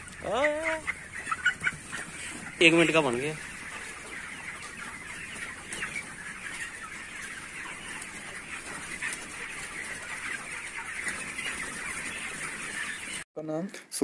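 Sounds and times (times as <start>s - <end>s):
chickens peeping and clucking: 0.0s - 13.9s.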